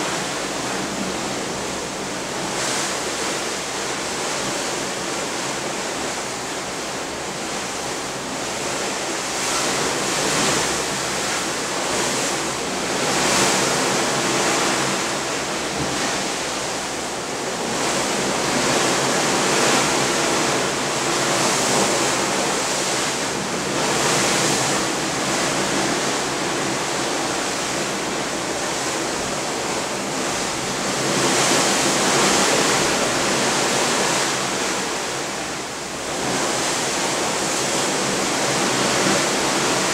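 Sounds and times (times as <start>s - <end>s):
seawater rushing along ship bow: 0.0s - 39.9s.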